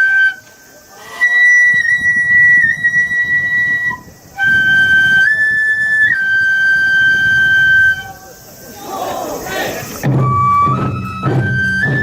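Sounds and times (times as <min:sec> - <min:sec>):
flute playing long notes: 0:00.0 - 0:08.4, 0:10.0 - 0:12.0.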